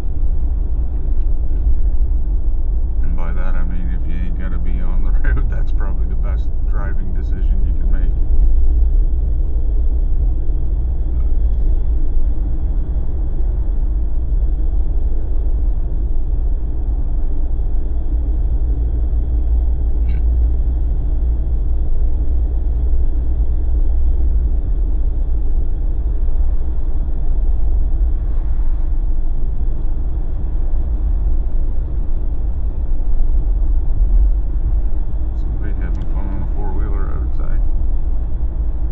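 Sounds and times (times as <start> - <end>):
vehicle driving: 0.0 - 38.9.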